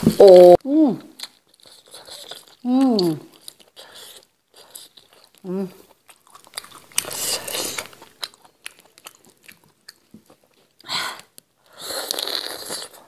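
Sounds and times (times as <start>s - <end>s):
biting chewing and smacking: 1.1s - 13.0s.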